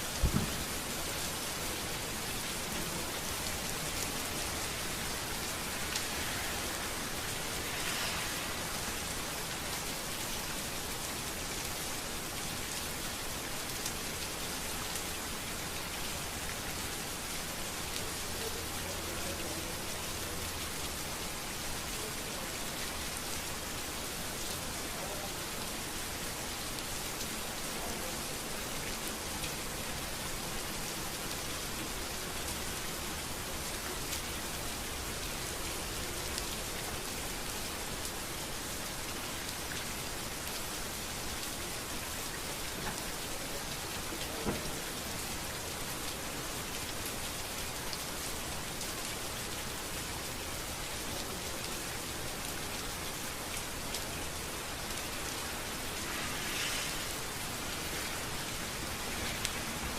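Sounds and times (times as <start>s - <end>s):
rain falling on a street: 0.0s - 59.9s.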